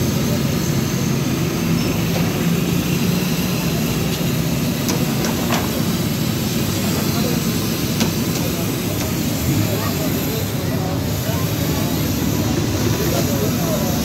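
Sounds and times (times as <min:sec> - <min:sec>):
gas burners roaring: 0:00.0 - 0:14.0.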